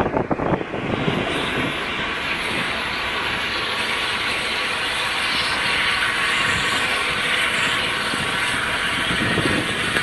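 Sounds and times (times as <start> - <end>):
low rumbling of rolling stock: 0.0 - 10.0
steam locomotive hissing: 0.0 - 10.0.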